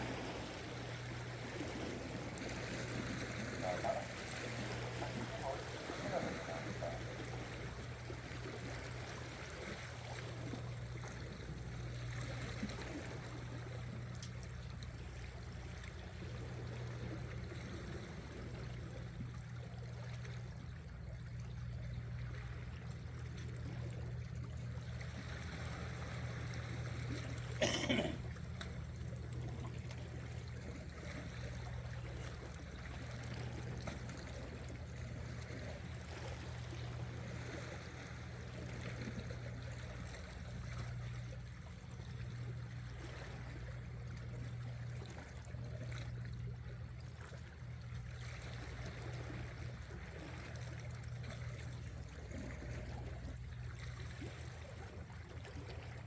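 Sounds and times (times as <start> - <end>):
steady low hum: 0.0 - 56.0
water lapping among rocks: 0.0 - 56.0.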